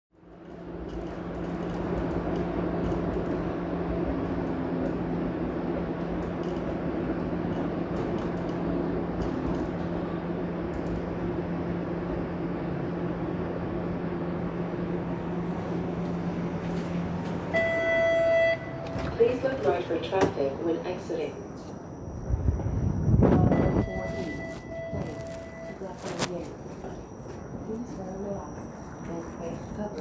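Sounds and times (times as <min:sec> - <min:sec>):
streetcar hum and rumble: 0:00.1 - 0:30.0.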